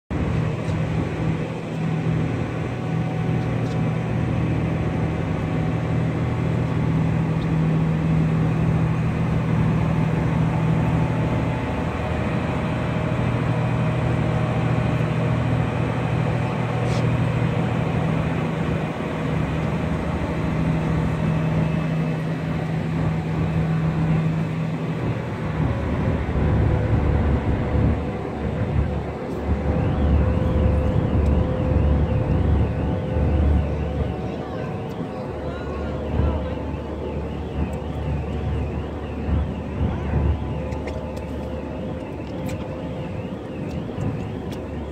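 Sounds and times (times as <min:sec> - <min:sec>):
ship engines droning: 0:00.1 - 0:44.9.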